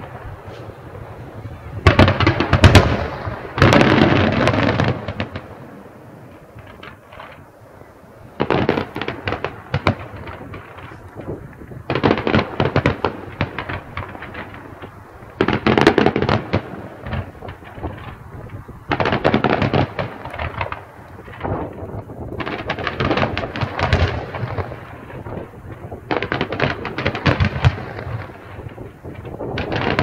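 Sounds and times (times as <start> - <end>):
fireworks crackling bangs: 0.0 - 7.6, 8.2 - 30.0.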